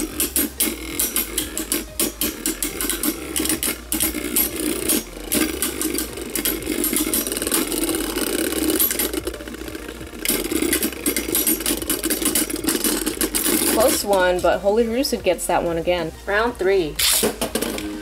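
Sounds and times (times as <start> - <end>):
tops clicking and clattering: 0.0 - 14.6
spinning tops whirring: 0.0 - 18.0.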